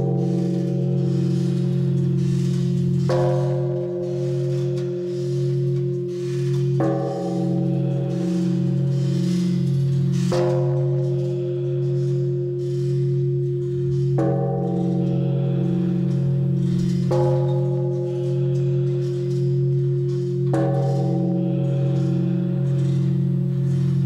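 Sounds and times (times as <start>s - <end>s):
deep ringing hum of bell: 0.0s - 24.0s
large bell clanging: 0.0s - 24.0s.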